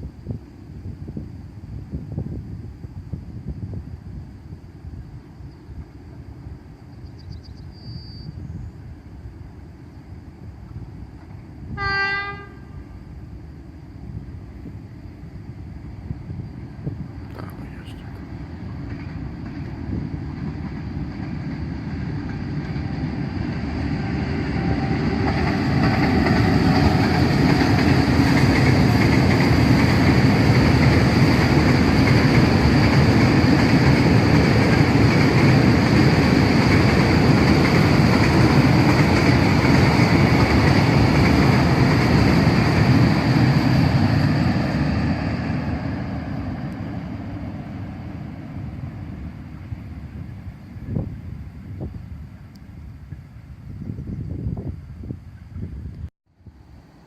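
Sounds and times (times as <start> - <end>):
freight train wheels on rails: 0.0 - 53.4.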